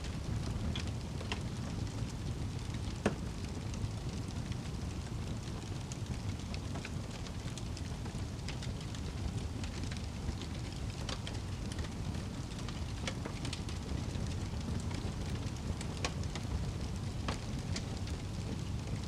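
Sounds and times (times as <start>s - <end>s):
fire flames rumbling: 0.0s - 19.0s
logs crackling and popping: 0.0s - 19.0s.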